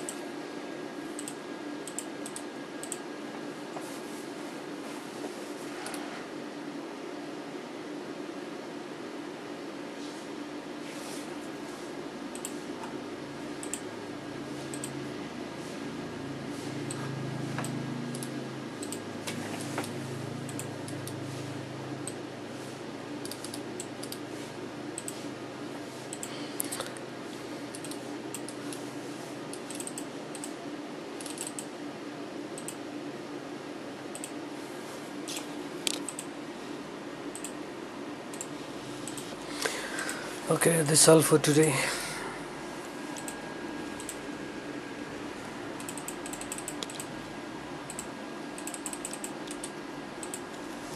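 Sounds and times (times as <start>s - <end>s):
low background hum: 0.0s - 50.9s.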